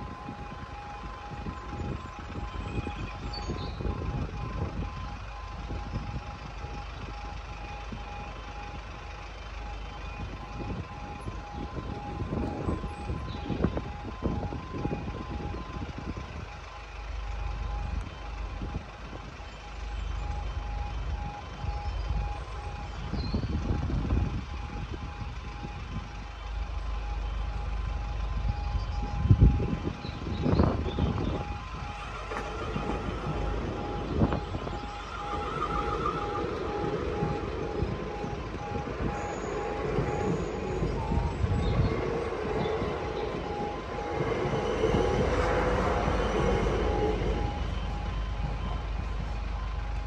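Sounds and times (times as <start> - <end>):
level crossing alarm two-tone warning: 0.0 - 50.0
low gusty rumble: 0.0 - 50.0.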